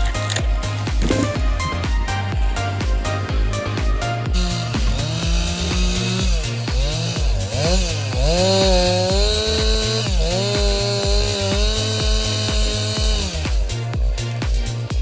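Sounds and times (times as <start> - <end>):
chainsaw engine revving: 0.0 - 15.0
dance music with steady beat: 0.0 - 15.0.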